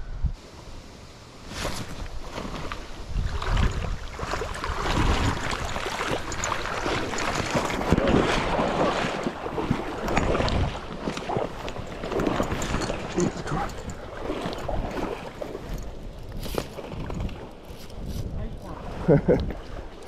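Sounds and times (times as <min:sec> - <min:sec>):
water sloshing: 0:01.6 - 0:20.0
wind buffeting microphone: 0:01.8 - 0:20.0.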